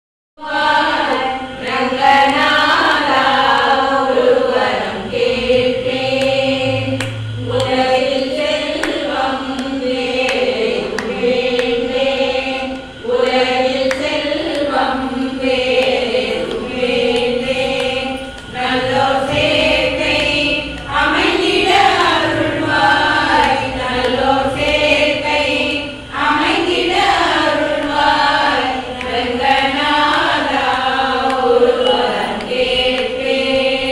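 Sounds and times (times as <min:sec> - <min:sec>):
women singing devotional song: 0:00.4 - 0:33.9.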